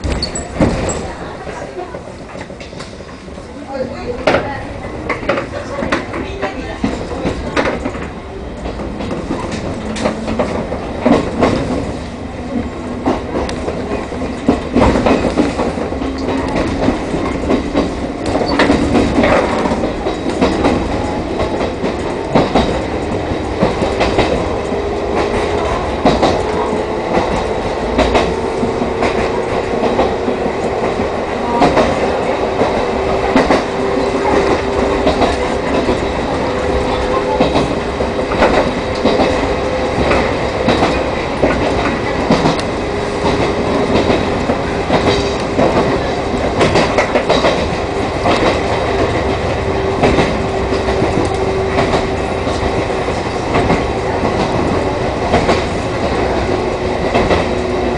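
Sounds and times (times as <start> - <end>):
wheels clacking on rail joints: 0.0 - 57.9.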